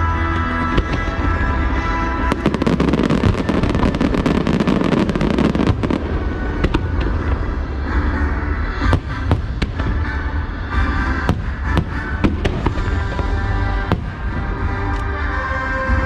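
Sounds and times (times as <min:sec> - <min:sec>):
loud music: 0:00.0 - 0:16.0.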